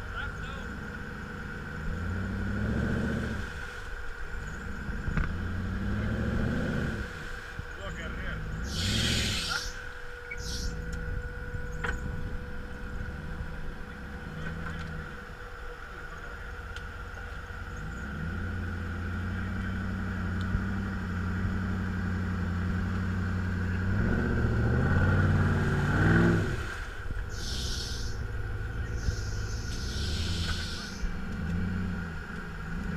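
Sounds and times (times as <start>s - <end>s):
off-road engine revving: 0.0s - 32.9s.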